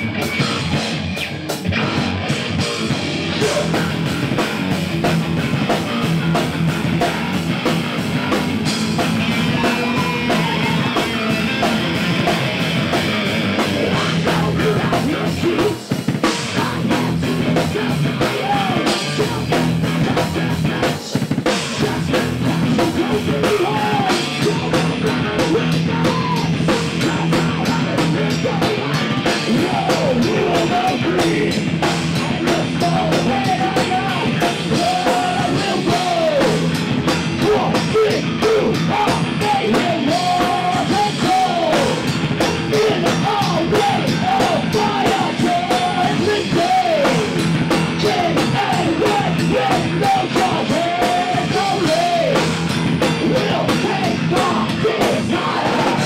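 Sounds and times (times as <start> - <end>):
bass guitar: 0.0 - 56.0
drum kit: 0.0 - 56.0
electric guitars: 0.0 - 56.0
man singing: 2.8 - 4.0, 9.0 - 56.0.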